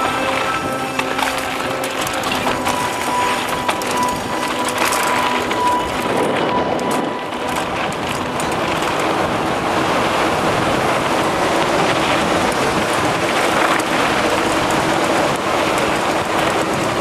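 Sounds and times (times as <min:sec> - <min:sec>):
small clicks and rattles: 0:00.0 - 0:09.4, 0:10.9 - 0:17.0
bike tyres rolling over gravel: 0:00.0 - 0:17.0
wind on microphone: 0:00.0 - 0:17.0.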